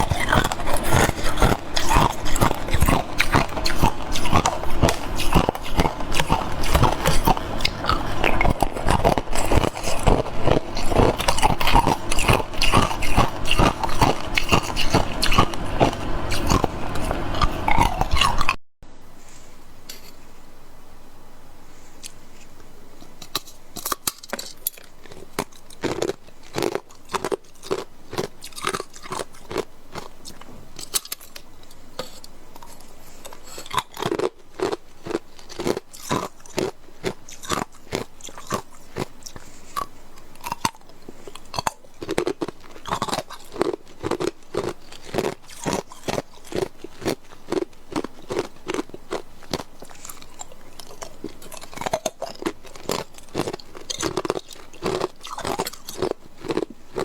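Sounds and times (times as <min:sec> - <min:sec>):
ice cubes crunching: 0:00.0 - 0:18.5, 0:23.2 - 0:31.4, 0:32.0 - 0:57.0.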